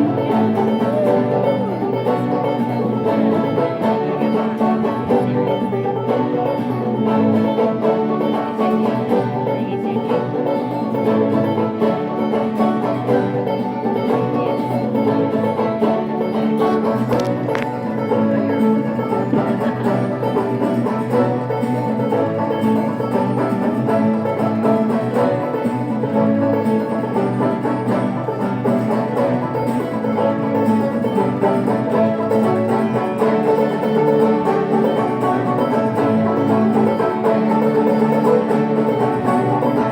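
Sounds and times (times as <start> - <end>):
banjo and mandolin tune: 0.0 - 39.9.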